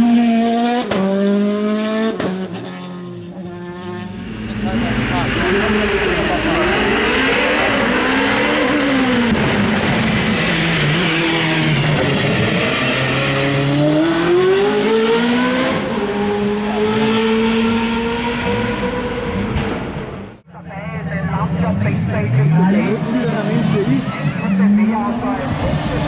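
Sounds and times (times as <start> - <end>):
race car engine accelerating: 0.0 - 20.4, 21.2 - 26.0.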